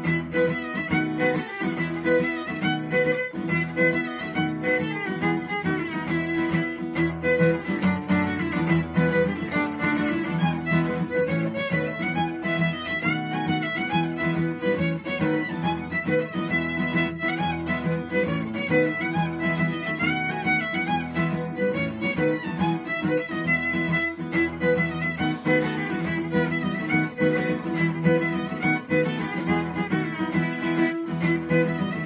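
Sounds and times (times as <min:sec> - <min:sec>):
acoustic guitar strumming: 0:00.0 - 0:32.0
fiddle tune: 0:00.0 - 0:32.0.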